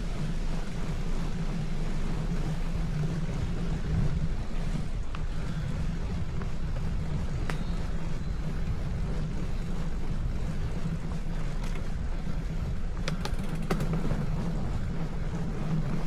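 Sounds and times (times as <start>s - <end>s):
bicycle riding noise: 0.0s - 16.0s
wind rumble on microphone: 0.0s - 16.0s.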